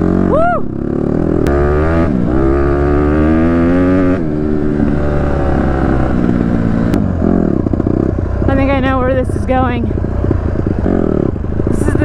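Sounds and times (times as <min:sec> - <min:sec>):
dirt bike engine accelerating: 0:00.0 - 0:12.0.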